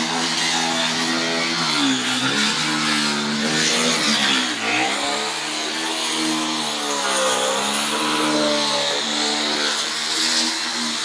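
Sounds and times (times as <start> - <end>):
electric power tool cutting wood: 0.0 - 11.0.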